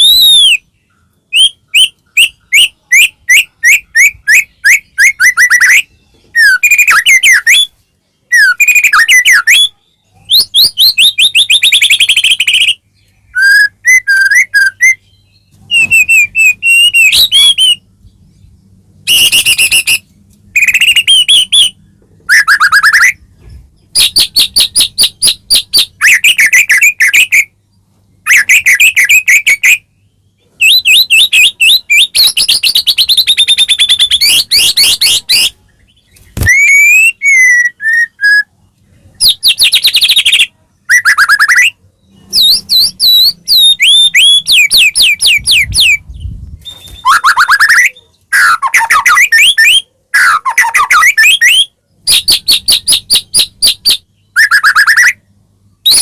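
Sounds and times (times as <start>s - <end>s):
bird singing loudly: 0.0s - 17.9s, 19.0s - 23.2s, 23.9s - 27.6s, 28.2s - 35.6s, 36.3s - 38.6s, 39.2s - 55.2s, 55.8s - 56.0s.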